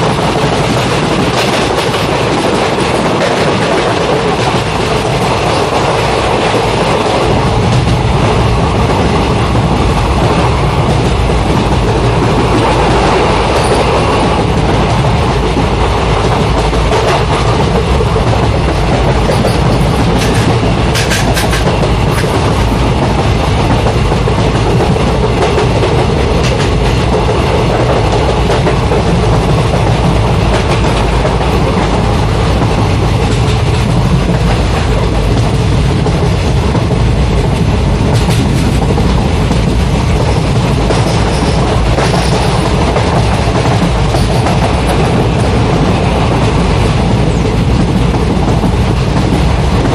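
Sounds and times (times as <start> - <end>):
sharp rail clicks: 0.0 - 49.9
train rumbling on rails: 0.0 - 49.9.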